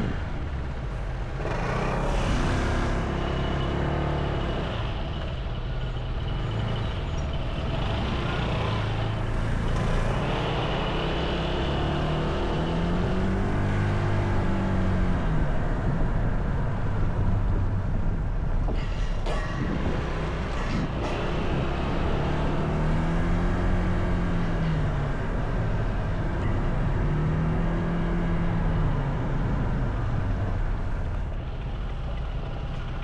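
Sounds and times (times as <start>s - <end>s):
road and wind noise: 0.0s - 33.0s.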